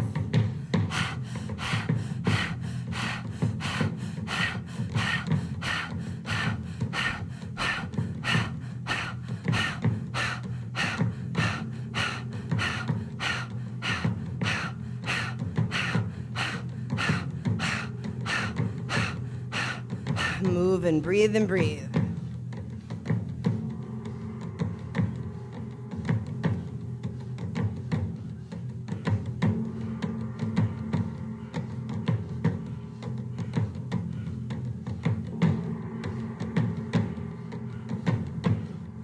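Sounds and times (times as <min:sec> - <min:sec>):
forceful rhythmic mouth breathing: 0:00.0 - 0:21.3, 0:21.9 - 0:39.0.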